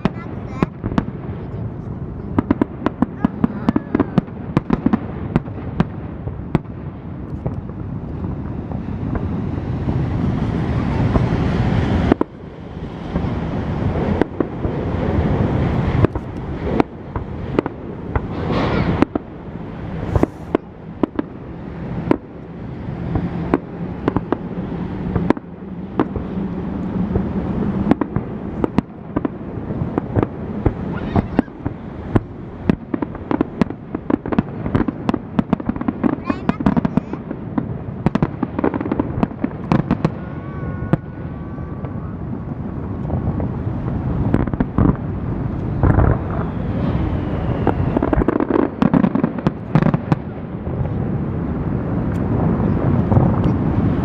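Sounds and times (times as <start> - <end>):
fireworks bangs and booms: 0.0 - 54.0
low rumble of bursts: 0.0 - 54.0.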